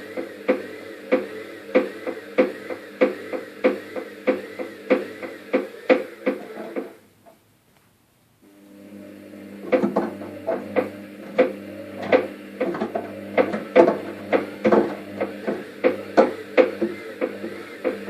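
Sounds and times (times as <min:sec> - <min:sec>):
knocking clatter: 0:00.0 - 0:07.0, 0:09.7 - 0:18.0
washing machine motor hum: 0:00.0 - 0:07.0, 0:08.4 - 0:18.0.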